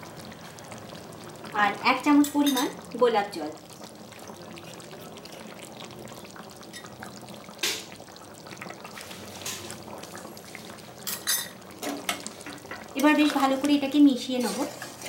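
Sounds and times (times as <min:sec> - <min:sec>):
gravy simmering in a pan: 0:00.0 - 0:15.0.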